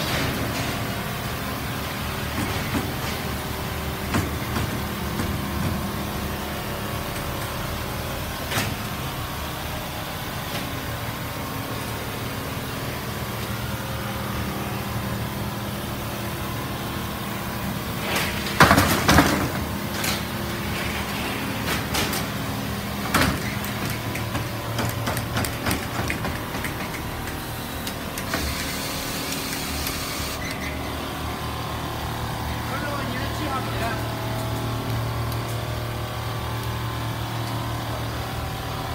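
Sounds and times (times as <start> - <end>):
factory machinery humming: 0.0 - 38.9.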